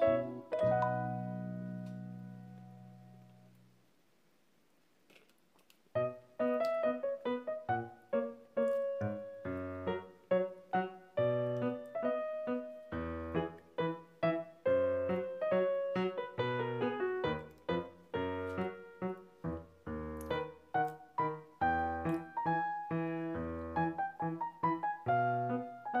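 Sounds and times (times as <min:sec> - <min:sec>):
piano music: 0:00.0 - 0:03.6, 0:06.0 - 0:26.0.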